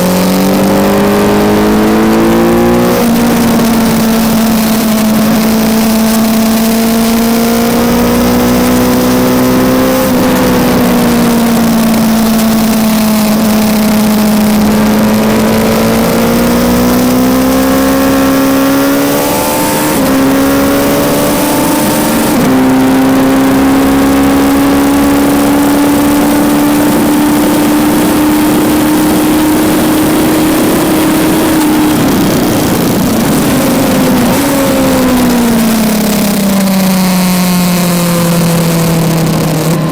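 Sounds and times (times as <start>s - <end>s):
motorcycle engine at high revs: 0.0s - 39.9s
wind on microphone: 0.0s - 39.9s.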